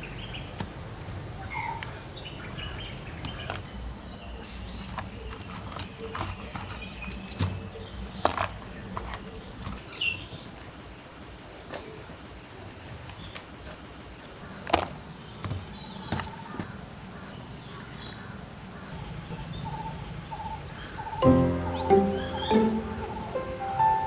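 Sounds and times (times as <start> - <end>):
birds chirping: 0.0 - 10.6, 14.2 - 24.0
faint insect hum: 0.0 - 24.0.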